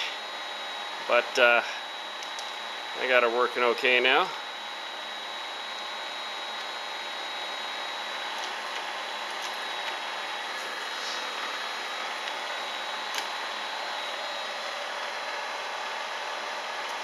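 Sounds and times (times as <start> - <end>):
milling machine whirring and whining: 0.0 - 17.0.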